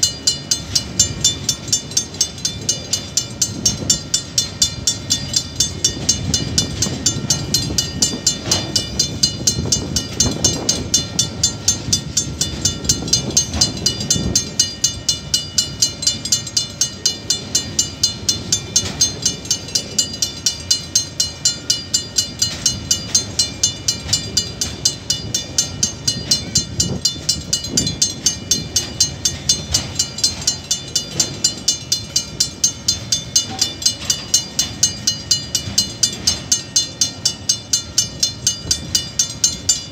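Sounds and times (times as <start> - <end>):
freight train wagons rumbling: 0.0 - 39.9
level-crossing alarm bell: 0.0 - 39.9.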